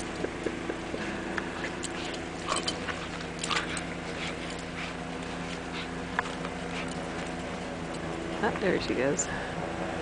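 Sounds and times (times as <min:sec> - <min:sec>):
steady low hum: 0:00.0 - 0:10.0
dogs crunching through snow: 0:00.3 - 0:08.9.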